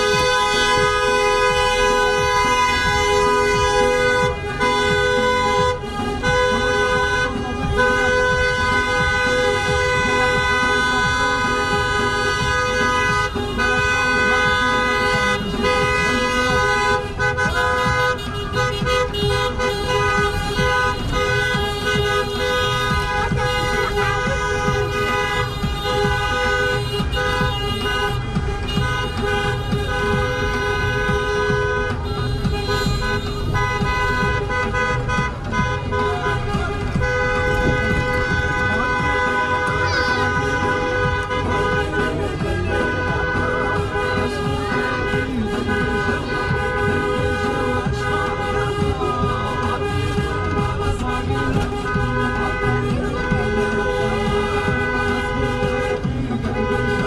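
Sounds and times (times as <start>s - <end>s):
car horns honking: 0.0s - 57.0s
engine and road noise: 0.0s - 57.0s.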